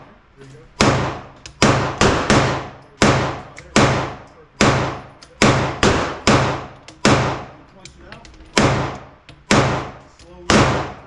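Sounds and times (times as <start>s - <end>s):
gunshots echoing: 0.8s - 7.7s, 8.5s - 11.0s.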